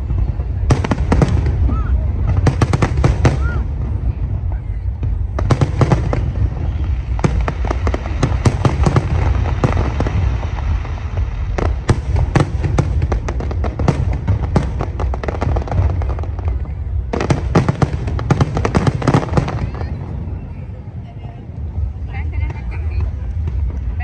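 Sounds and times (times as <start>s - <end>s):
low rumble of shell explosions: 0.0s - 20.5s
fireworks crackling bursts: 0.0s - 24.0s.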